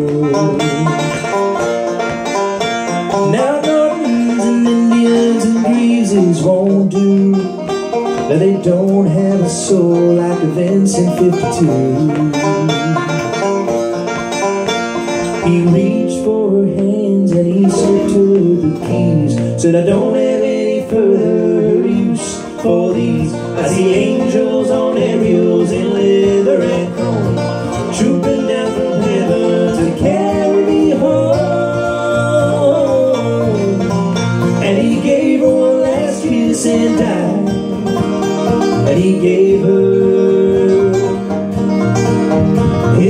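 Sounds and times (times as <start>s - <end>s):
acoustic guitar: 0.0s - 43.0s
banjo playing: 0.0s - 43.0s.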